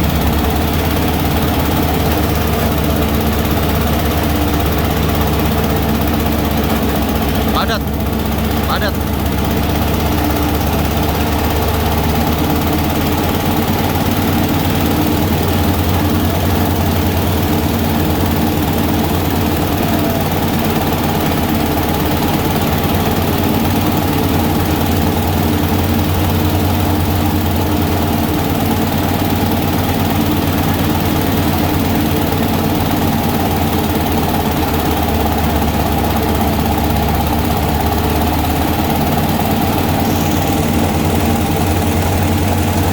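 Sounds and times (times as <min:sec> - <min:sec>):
diesel-driven flour mill running: 0:00.0 - 0:42.9.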